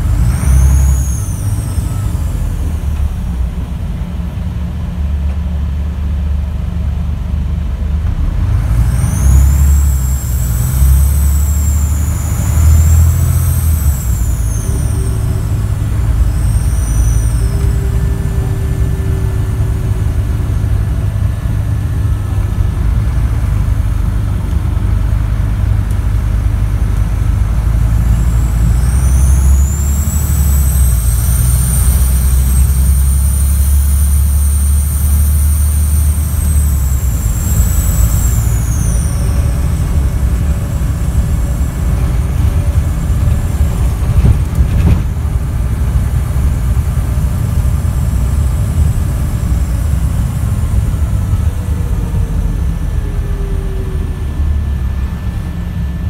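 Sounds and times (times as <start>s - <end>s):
high turbo whistle: 0.0s - 4.1s, 8.2s - 56.0s
diesel bus engine pulling hard: 0.0s - 56.0s.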